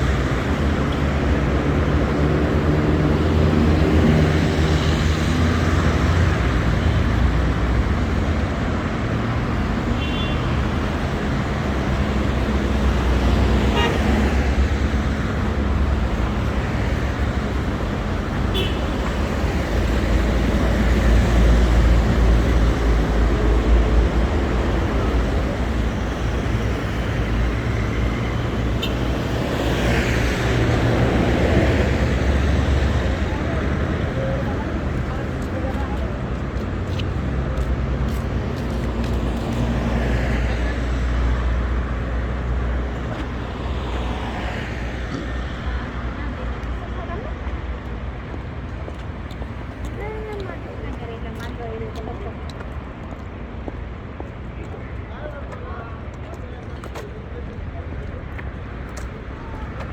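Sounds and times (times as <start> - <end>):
car and bus engines rumbling: 0.0 - 59.9.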